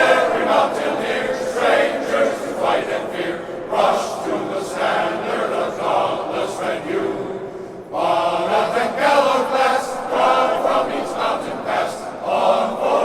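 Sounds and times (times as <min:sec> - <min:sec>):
male choir singing: 0:00.0 - 0:13.0.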